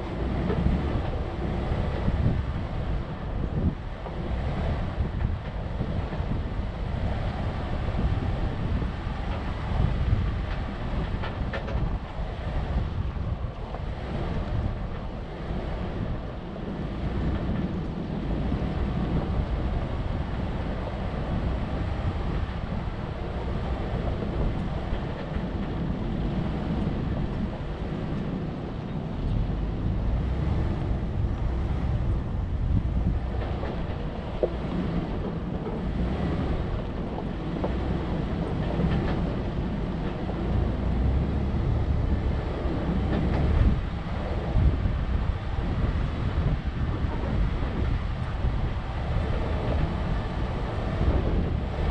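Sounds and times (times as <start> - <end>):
vehicle rumbling on dirt trail: 0.0 - 51.9
wind buffeting microphone: 0.0 - 51.9.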